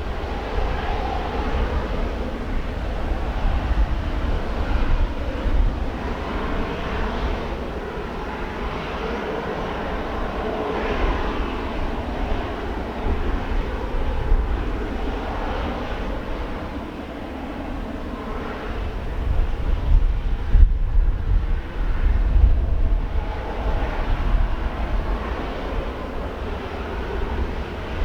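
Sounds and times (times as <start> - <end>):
aircraft engine: 0.0 - 28.0.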